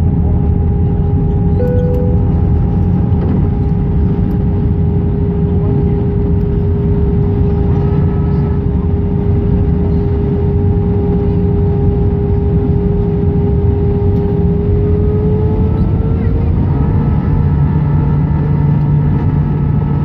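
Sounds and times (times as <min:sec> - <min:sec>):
jet engine roar in cabin: 0:00.0 - 0:20.0.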